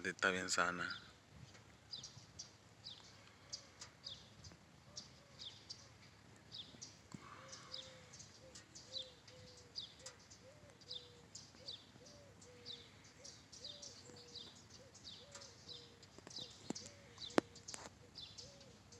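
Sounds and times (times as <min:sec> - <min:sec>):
small bird chirping: 0:00.9 - 0:18.9.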